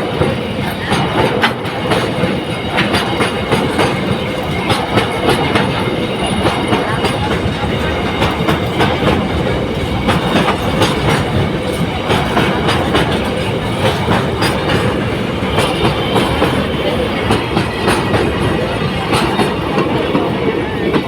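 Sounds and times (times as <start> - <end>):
train rumbling on rails: 0.0 - 21.0
wheels clicking over rail joints: 0.0 - 21.0.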